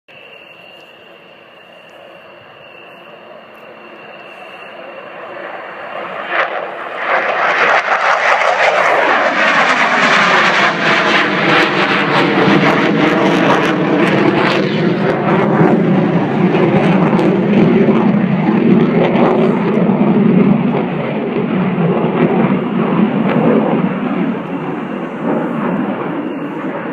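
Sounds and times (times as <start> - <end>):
fighter jet flying past: 0.2 - 26.9.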